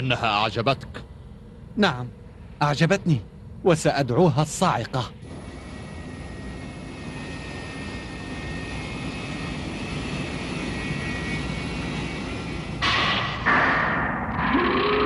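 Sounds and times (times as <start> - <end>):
faint high hum: 0.0 - 13.4.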